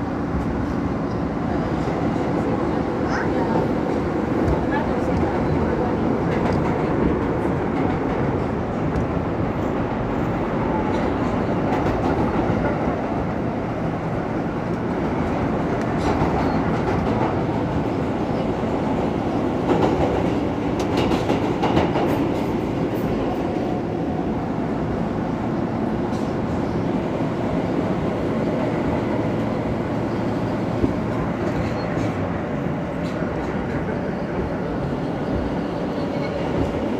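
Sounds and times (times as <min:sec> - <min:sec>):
subway car wheels rumbling: 0:00.0 - 0:36.9.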